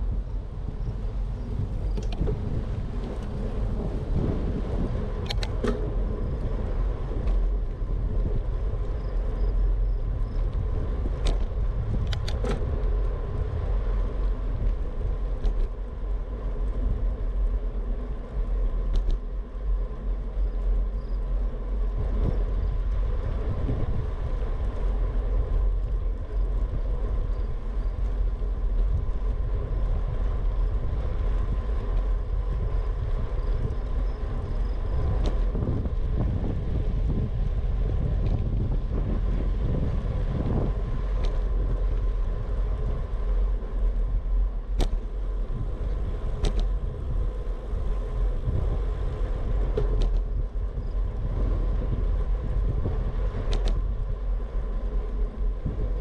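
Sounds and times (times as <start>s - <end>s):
bicycle tyre hum: 0.0s - 56.0s
wind rumbling on microphone: 0.0s - 56.0s.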